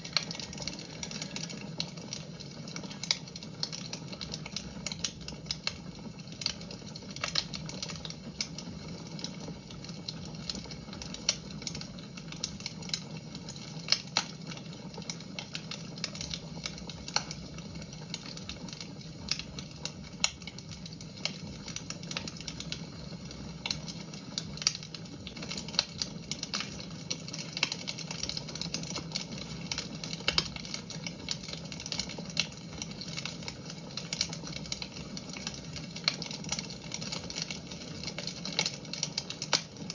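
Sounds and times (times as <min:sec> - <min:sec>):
sharp snaps of fire: 0:00.0 - 0:39.9
wood fire crackling: 0:00.0 - 0:39.9.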